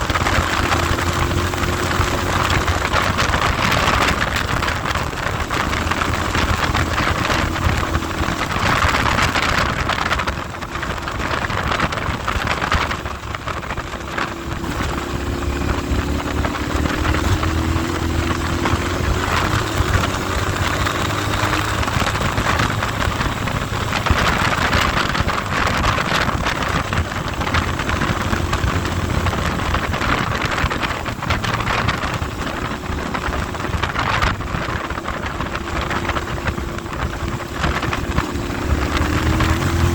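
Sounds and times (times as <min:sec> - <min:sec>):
vehicle engine running: 0:00.0 - 0:39.9
wind buffeting microphone: 0:00.0 - 0:39.9.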